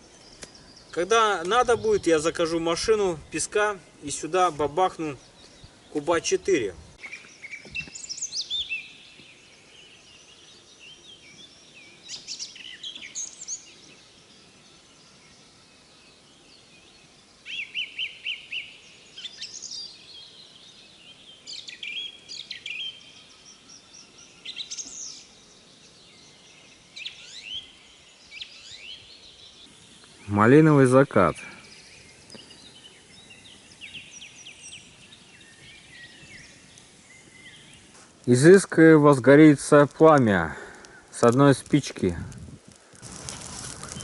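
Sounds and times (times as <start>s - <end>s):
songbirds singing: 0.0s - 44.0s.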